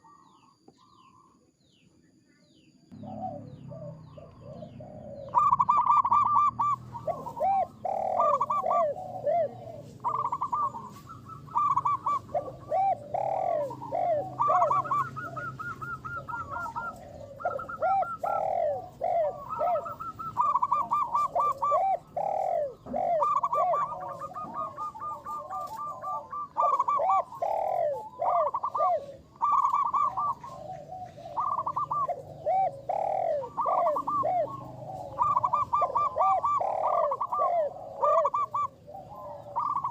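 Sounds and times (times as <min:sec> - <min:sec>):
doves cooing: 0:00.0 - 0:01.3, 0:02.9 - 0:39.9.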